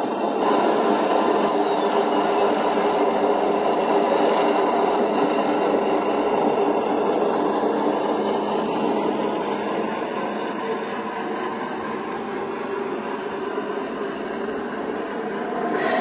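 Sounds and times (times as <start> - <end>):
model train motor and gears: 0.0 - 16.0
model train wheels rumbling on rails: 0.0 - 16.0.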